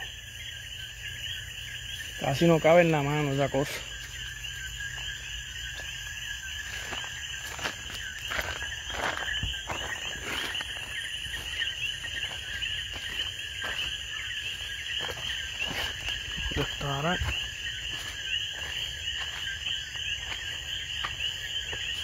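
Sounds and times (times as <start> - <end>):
frogs and insects chirping: 0.0 - 22.0
footsteps: 2.9 - 22.0.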